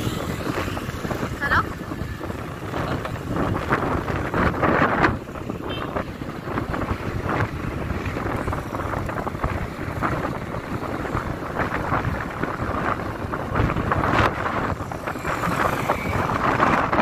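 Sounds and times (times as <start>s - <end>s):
engine and road noise: 0.0s - 17.0s
wind buffeting microphone: 0.0s - 17.0s.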